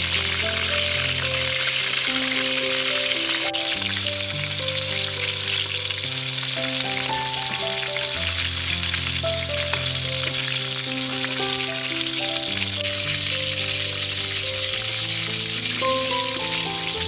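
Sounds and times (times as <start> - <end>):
food deep-frying in hot oil: 0.0 - 17.0
slow background music: 0.0 - 17.0.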